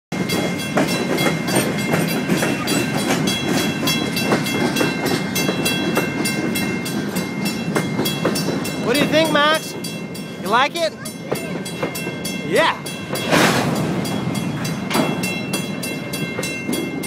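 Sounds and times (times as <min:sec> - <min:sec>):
train rumble: 0:00.1 - 0:17.0
train wheels clacking: 0:00.2 - 0:17.0.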